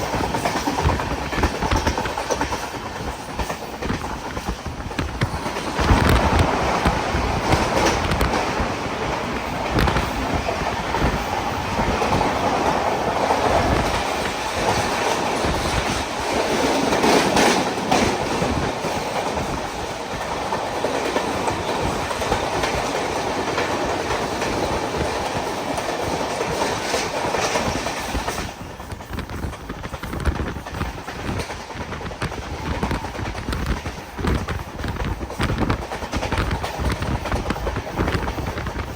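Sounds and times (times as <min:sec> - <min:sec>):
train rumbling: 0:00.0 - 0:38.9
train wheels clattering over rail joints: 0:00.0 - 0:38.9.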